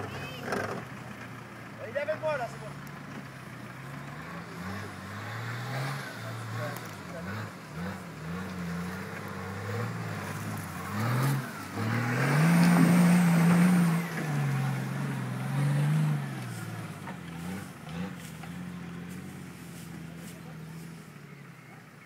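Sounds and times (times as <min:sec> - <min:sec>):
engine revving: 0:00.0 - 0:01.1, 0:02.0 - 0:21.2.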